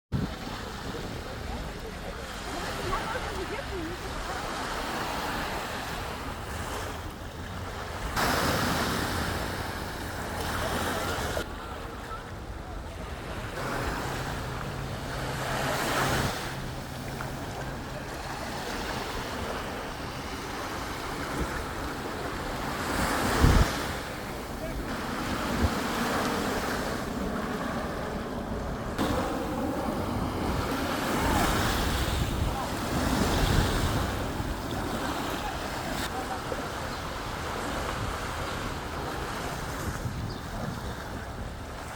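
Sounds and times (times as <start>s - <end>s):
sea waves washing onto beach: 0.2s - 41.9s
wind buffeting microphone: 5.2s - 36.2s, 36.8s - 41.9s.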